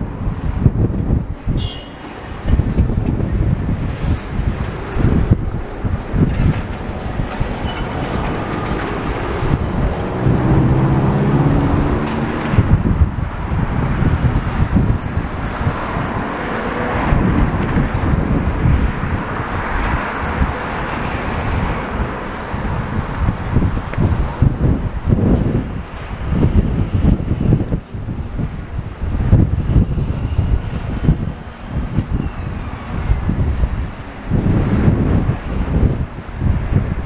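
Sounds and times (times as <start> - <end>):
vehicles passing: 0.0 - 37.0
wind buffeting microphone: 0.0 - 37.0
passing engine hum: 2.2 - 37.0.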